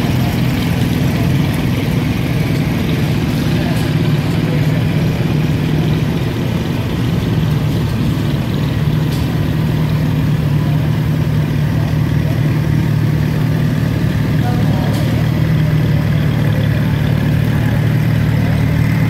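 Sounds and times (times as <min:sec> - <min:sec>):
tractor engines humming: 0:00.0 - 0:19.0.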